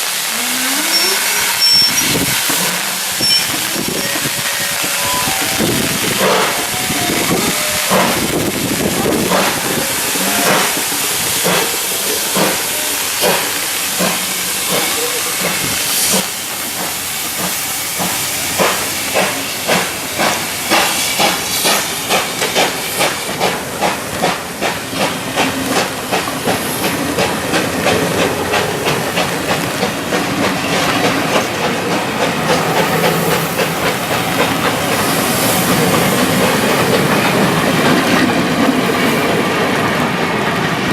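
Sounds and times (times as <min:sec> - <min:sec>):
steam hiss: 0:00.0 - 0:40.9.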